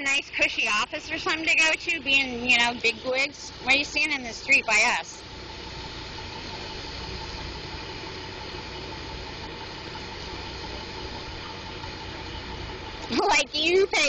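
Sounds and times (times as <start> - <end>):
faint steady whine: 0.0 - 14.0
traffic engines rumbling: 0.0 - 14.0.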